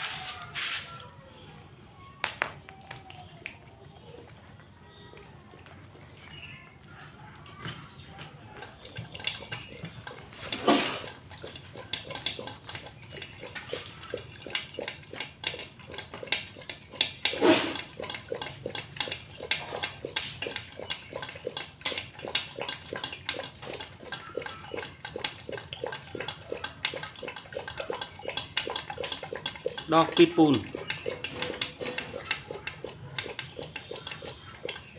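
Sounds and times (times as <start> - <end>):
dog lapping from metal pot: 2.7 - 34.9.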